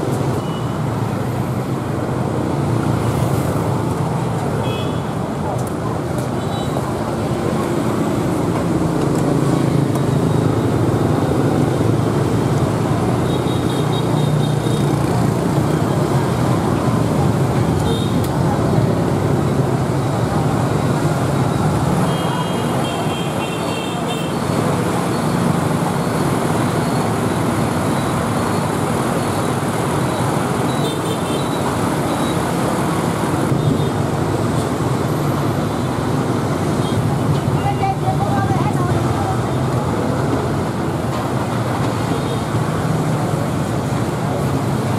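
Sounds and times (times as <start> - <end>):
street traffic: 0.0 - 44.9
passing motorbikes: 0.1 - 44.9.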